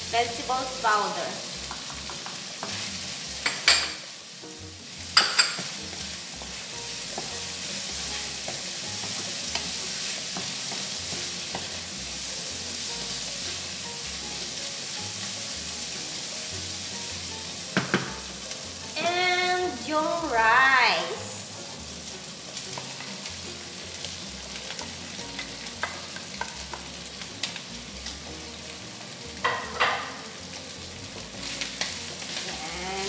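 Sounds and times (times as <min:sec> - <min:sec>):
food sizzling in a wok: 0:00.0 - 0:33.0
spatula stirring food: 0:01.3 - 0:19.0, 0:21.5 - 0:32.6.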